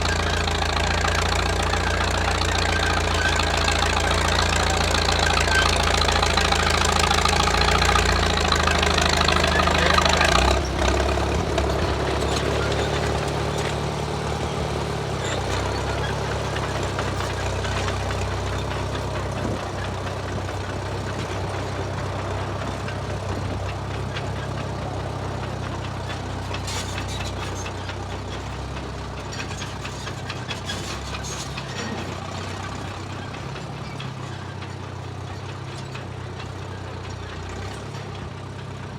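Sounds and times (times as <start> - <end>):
bulldozer engine running: 0.0 - 38.9.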